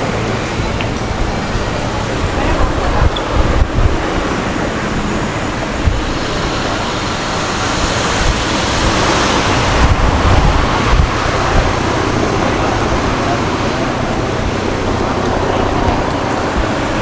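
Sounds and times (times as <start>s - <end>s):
traffic rushing: 0.0s - 17.0s
wind buffeting microphone: 0.0s - 17.0s.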